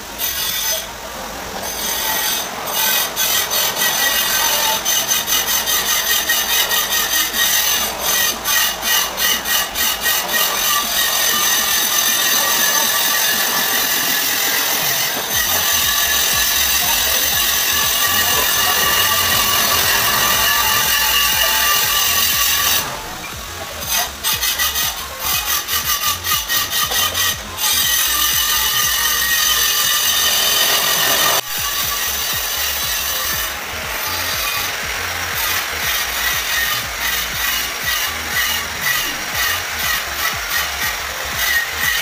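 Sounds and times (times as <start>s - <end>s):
angle grinder whining: 0.0s - 42.0s.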